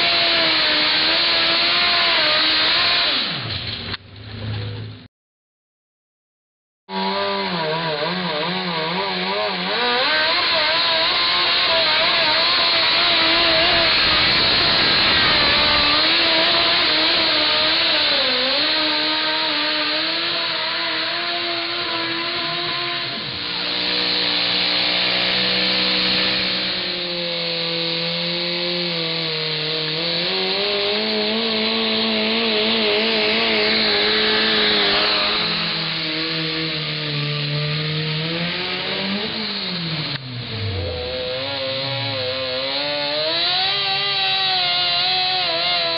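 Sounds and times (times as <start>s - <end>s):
tractor engine at full throttle: 0.0s - 5.0s, 7.2s - 45.9s.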